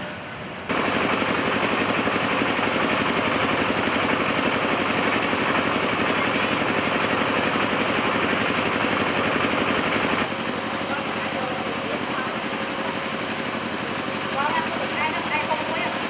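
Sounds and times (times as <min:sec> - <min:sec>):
diesel engine idling: 0:00.6 - 0:16.0.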